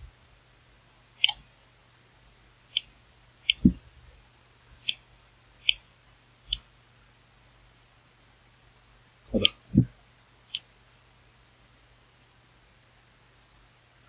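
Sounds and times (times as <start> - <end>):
faint steady low hum: 0.0 - 14.0.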